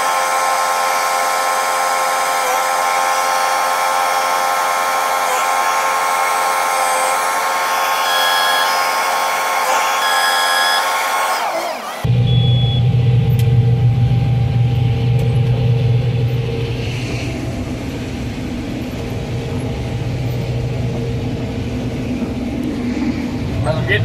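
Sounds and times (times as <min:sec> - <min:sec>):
combine harvester engine drone: 0:00.0 - 0:24.0
mechanical hum: 0:00.0 - 0:24.0.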